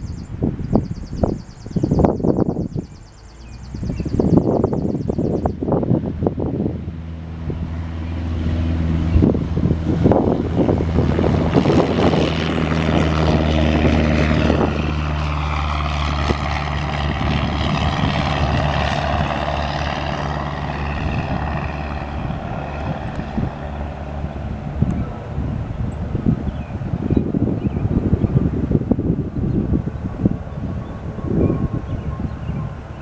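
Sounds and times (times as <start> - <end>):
propeller plane engine drone: 0.0 - 33.0
wind buffeting microphone: 0.0 - 33.0.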